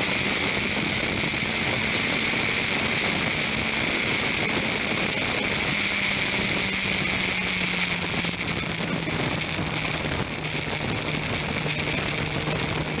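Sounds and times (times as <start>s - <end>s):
motorcycle engine at low revs: 0.0s - 13.0s
wind rush on microphone: 0.0s - 13.0s.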